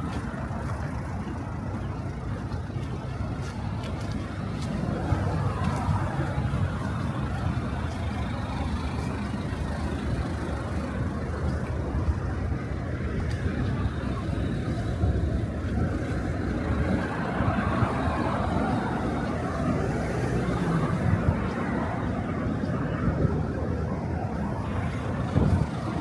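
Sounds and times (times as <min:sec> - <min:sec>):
city traffic rumble: 0:00.0 - 0:26.0.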